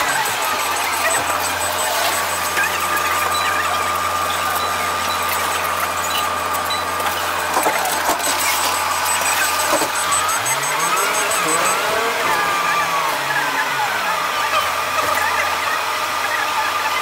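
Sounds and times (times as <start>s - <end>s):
thin steady tone: 0.0s - 14.7s.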